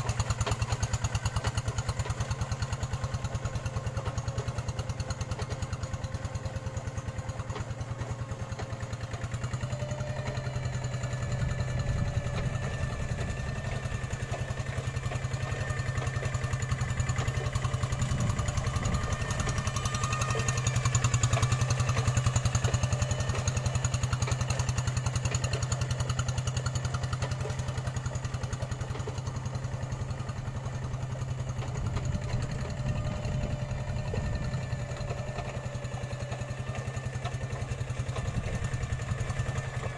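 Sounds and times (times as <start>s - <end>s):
hand tractor diesel engine: 0.0s - 39.9s.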